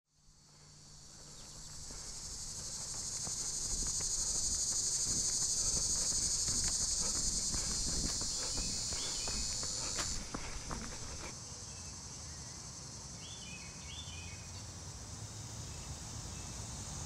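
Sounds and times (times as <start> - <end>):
insects trilling: 0.2 - 17.0.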